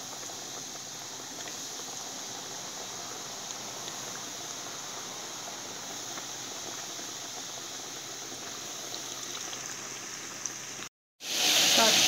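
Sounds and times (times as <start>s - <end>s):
deep-frying sizzle with crackles: 0.0s - 12.0s.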